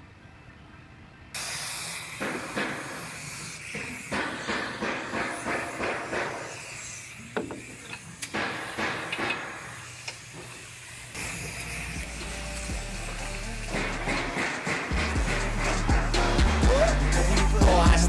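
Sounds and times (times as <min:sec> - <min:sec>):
air spray gun hissing: 0:01.4 - 0:17.9.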